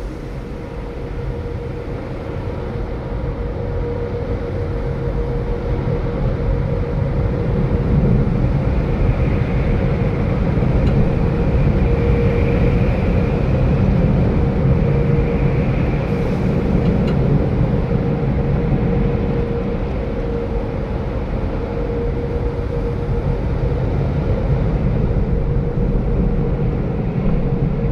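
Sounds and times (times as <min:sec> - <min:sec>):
car wash machinery running: 0:00.0 - 0:27.9.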